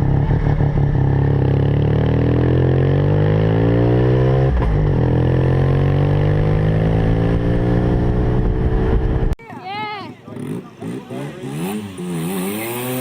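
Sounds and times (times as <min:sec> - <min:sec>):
rotary engine accelerating: 0:00.0 - 0:09.4, 0:10.3 - 0:13.0.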